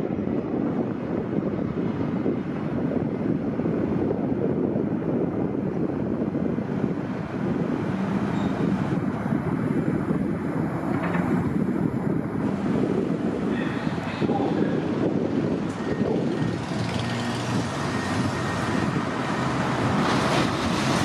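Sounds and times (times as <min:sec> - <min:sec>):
train running on rails: 0:00.0 - 0:21.0.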